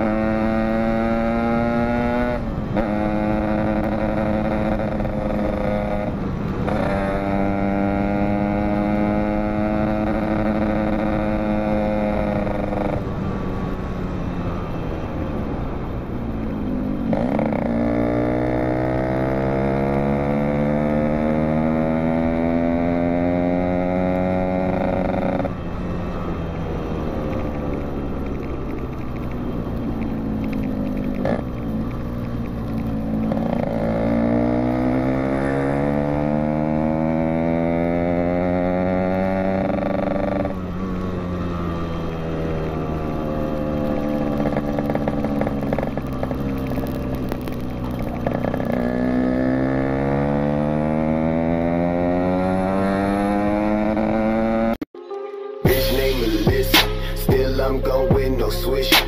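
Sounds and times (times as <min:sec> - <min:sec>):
two-stroke motorcycle engine: 0:00.0 - 0:54.9.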